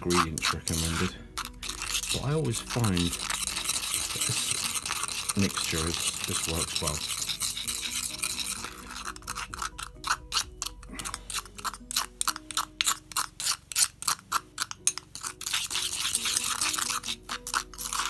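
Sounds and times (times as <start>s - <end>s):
faint background music: 0.0s - 18.0s
spoon scraping in stone mortar: 0.0s - 18.0s.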